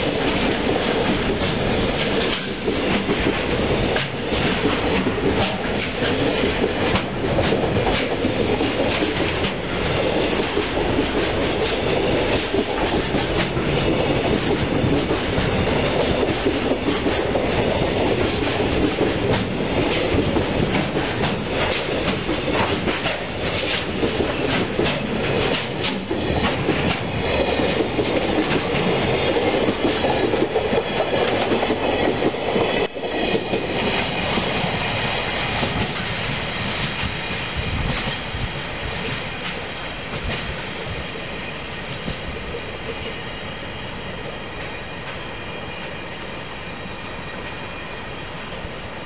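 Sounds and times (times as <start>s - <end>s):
train wheels clacking over rail joints: 0.0s - 40.9s
freight train rolling noise: 0.0s - 49.0s.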